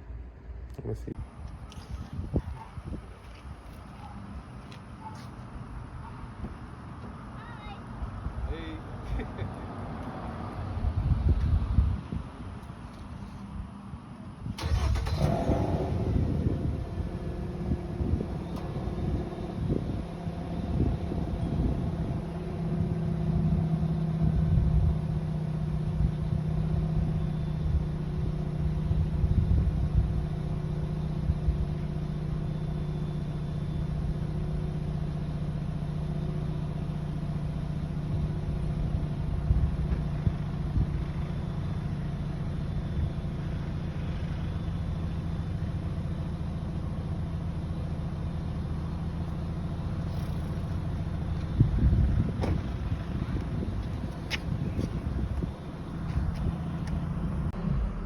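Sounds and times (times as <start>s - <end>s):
car engine running steadily: 10.7s - 58.0s.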